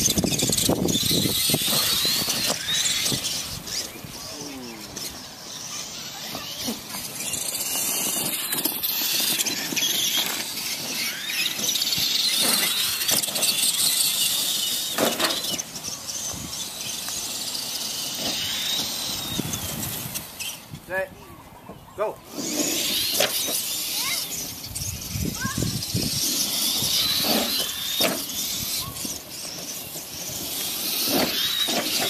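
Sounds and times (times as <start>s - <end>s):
electric motor whine: 0.0s - 20.9s, 22.2s - 32.0s.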